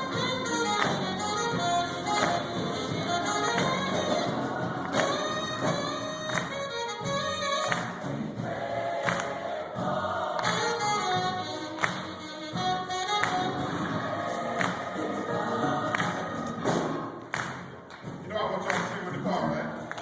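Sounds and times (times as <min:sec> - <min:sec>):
gospel choir singing: 0:00.0 - 0:20.0
instrumental backing: 0:00.0 - 0:20.0
percussive beat: 0:00.0 - 0:20.0.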